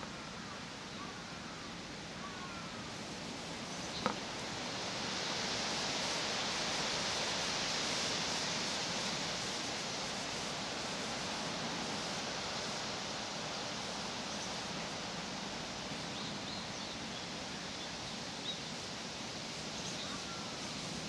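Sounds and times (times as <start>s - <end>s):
leaves rustling in wind: 0.0s - 21.0s.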